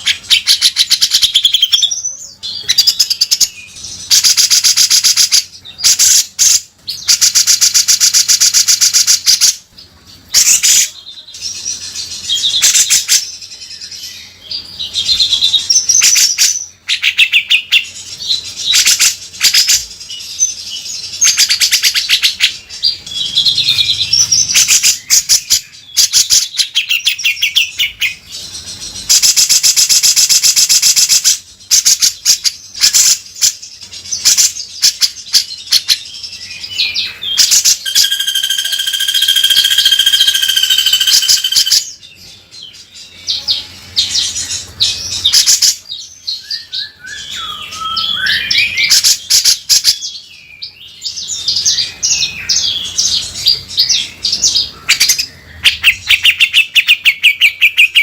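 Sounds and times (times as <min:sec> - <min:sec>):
bird singing buzzy rattles: 0:00.0 - 0:10.8, 0:11.4 - 0:50.2.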